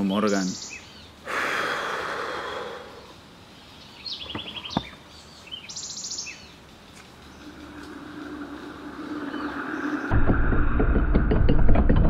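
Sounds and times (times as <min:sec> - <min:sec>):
soft outdoor hiss: 0:00.0 - 0:10.1
birds trilling and chirping: 0:00.0 - 0:10.3.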